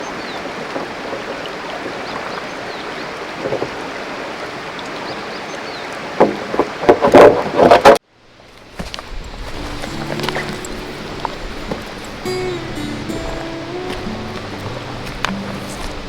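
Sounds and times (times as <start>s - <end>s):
mountain river flowing: 0.0s - 7.6s, 8.3s - 16.0s.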